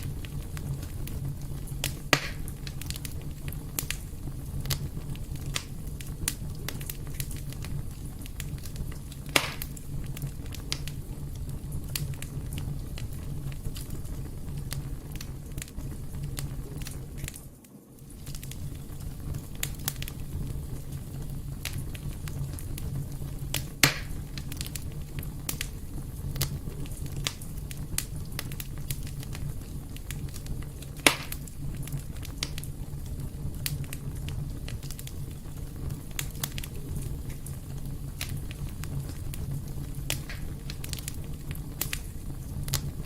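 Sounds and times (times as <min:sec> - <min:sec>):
sharp fire pops: 0:00.0 - 0:43.0
wood fire crackling: 0:00.0 - 0:43.0.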